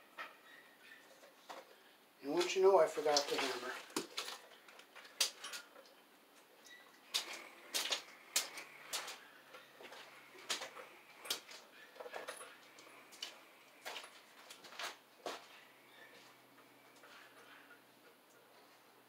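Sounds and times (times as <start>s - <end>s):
faint footsteps: 1.4s - 18.9s.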